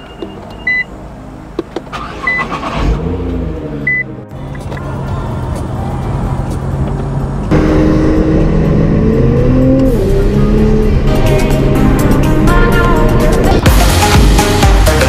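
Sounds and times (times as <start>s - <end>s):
car engine accelerating: 1.8s - 14.6s.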